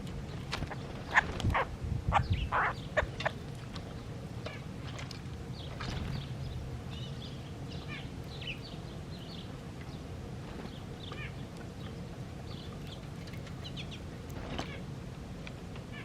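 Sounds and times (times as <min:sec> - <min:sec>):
songbirds chirping: 0:00.0 - 0:16.0
steady low rumble: 0:00.0 - 0:16.0.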